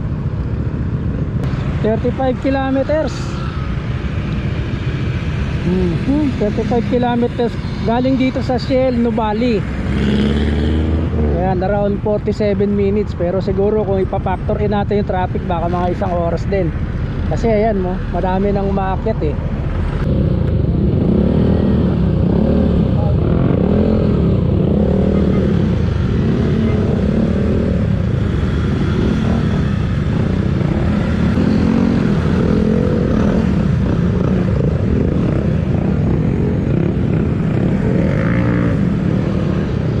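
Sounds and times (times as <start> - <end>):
wind and road noise: 0.0 - 40.0.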